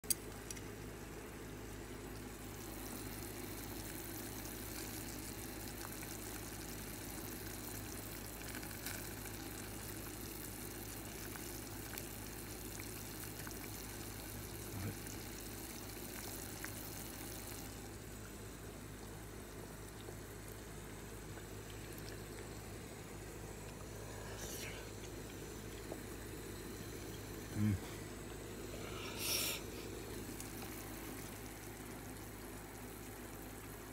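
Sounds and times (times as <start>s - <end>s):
broth bubbling in a pot: 0.0s - 33.9s.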